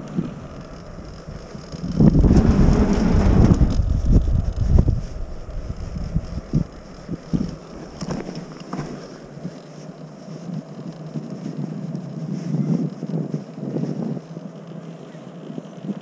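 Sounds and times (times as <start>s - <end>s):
wind buffeting microphone: 0.0s - 9.6s, 10.6s - 14.4s.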